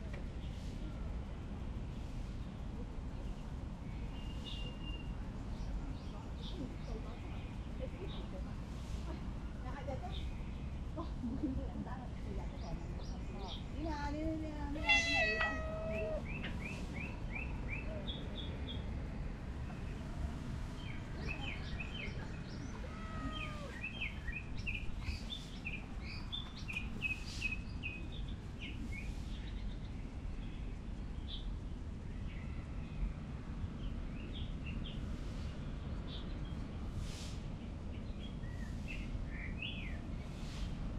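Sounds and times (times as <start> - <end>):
low outdoor background noise: 0.0 - 40.9
small birds chirping: 1.9 - 40.9.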